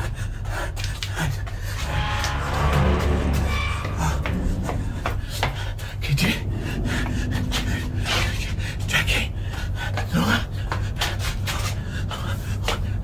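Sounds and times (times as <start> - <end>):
steady low hum: 1.4 - 13.0.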